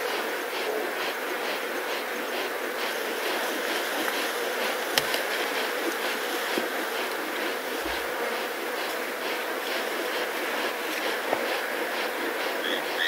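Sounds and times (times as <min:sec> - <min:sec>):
flies buzzing: 0:00.0 - 0:13.0.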